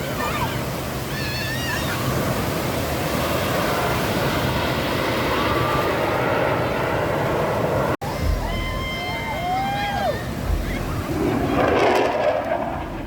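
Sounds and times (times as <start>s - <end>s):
beach surf: 0.0s - 13.0s
jet aircraft flying past: 0.0s - 13.0s.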